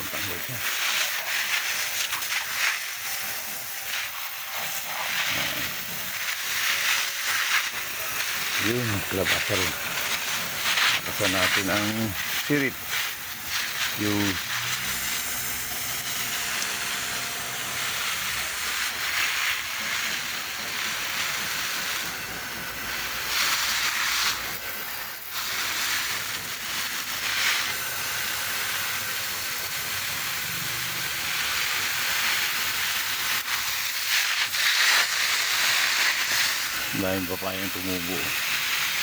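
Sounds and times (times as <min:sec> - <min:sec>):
loud hissing noise: 0:00.0 - 0:39.0.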